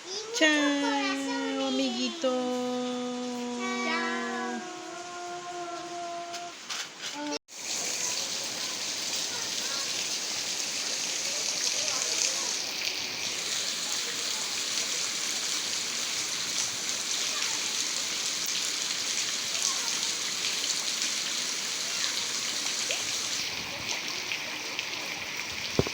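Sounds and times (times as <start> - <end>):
steady rain falling: 0.1 - 25.9.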